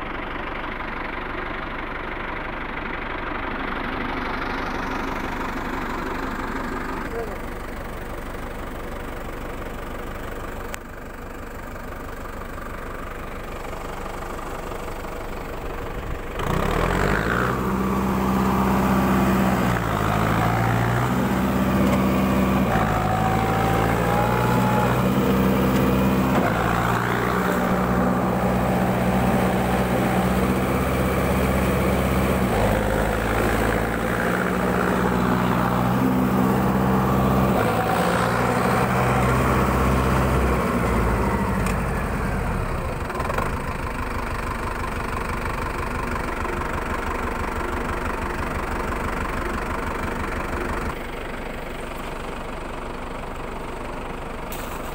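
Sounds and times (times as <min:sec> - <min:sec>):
tractor engine labouring: 0:00.0 - 0:54.9.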